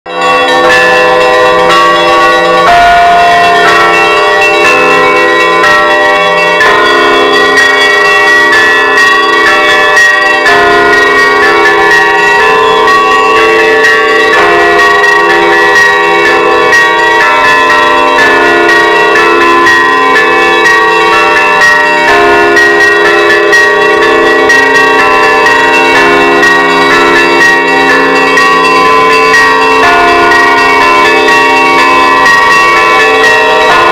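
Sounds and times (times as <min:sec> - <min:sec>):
church bells pealing: 0:00.1 - 0:33.9.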